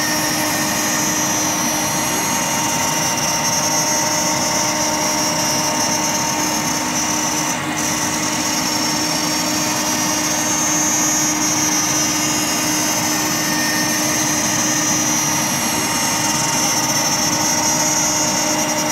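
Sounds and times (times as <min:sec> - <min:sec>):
router spindle whining: 0:00.0 - 0:18.9
vacuum dust extraction rushing: 0:00.0 - 0:18.9.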